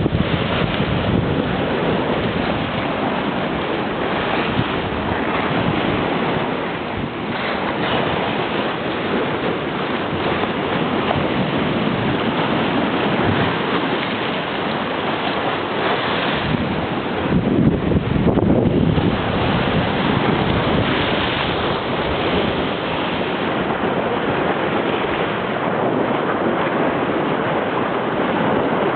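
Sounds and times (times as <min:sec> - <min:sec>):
sea waves breaking on shore: 0:00.0 - 0:28.9
wind buffeting microphone: 0:00.0 - 0:28.9.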